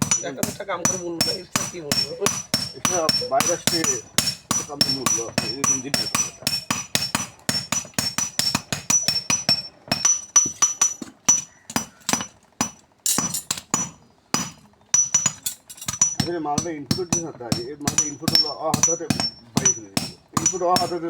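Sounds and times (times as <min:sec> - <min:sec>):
hammer striking metal: 0:00.0 - 0:21.0.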